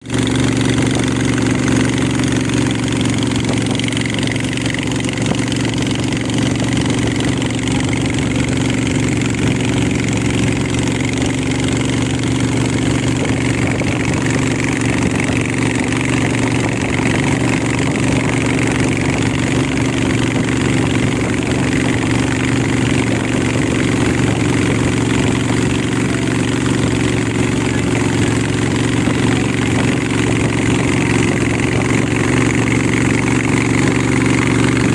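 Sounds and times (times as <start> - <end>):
boat engine humming: 0.0 - 34.9.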